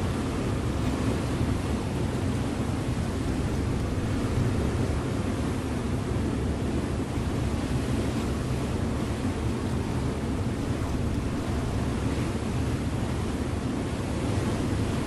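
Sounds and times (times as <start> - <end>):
ship engine drone: 0.0 - 15.0
water rushing along hull: 0.0 - 15.0.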